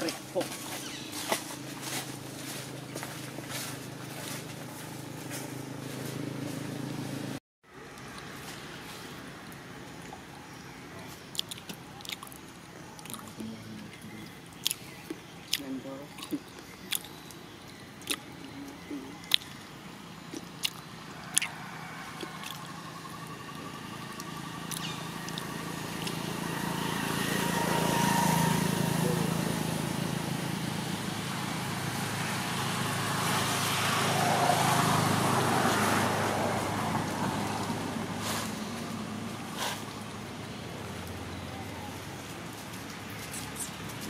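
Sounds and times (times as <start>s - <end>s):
motor vehicle passing: 0.0s - 10.4s, 18.0s - 44.0s.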